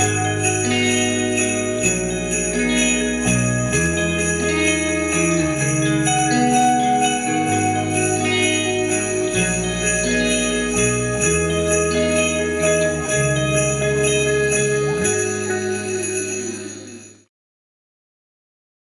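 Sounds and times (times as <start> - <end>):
jingle bells shaken: 0.0 - 17.3.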